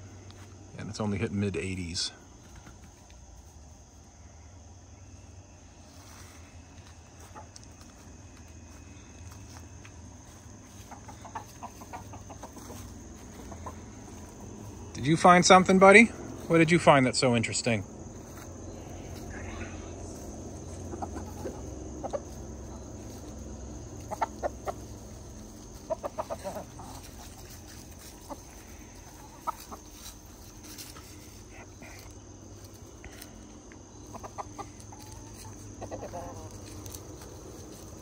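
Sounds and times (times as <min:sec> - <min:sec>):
chickens clucking: 0:05.4 - 0:38.0.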